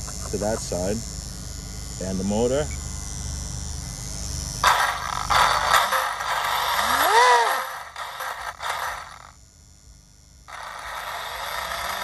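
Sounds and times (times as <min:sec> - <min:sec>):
electric motor whine: 0:00.8 - 0:09.4, 0:10.4 - 0:12.0.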